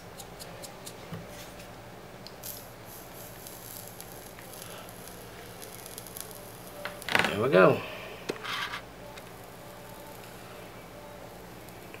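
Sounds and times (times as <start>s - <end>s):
steady low hum: 0.0s - 12.0s
faint hiss: 2.3s - 12.0s.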